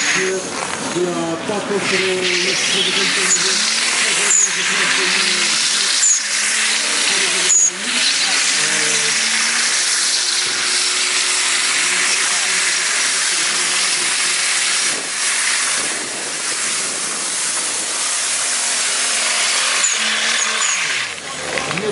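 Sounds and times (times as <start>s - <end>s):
engine at high revs: 0.0s - 21.9s
tyres spinning and screeching: 0.0s - 21.9s.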